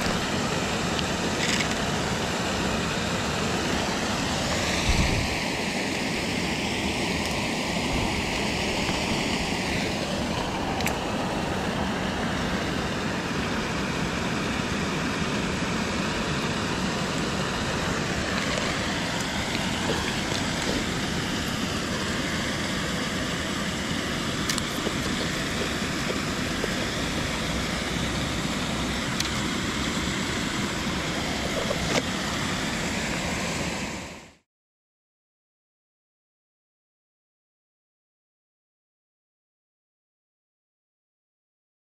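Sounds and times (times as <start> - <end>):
river water flowing: 0.0 - 34.3.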